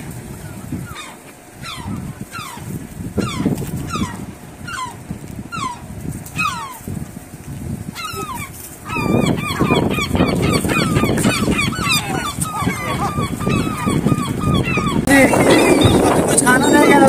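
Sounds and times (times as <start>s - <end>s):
gulls calling: 0.0s - 6.9s, 7.9s - 17.0s.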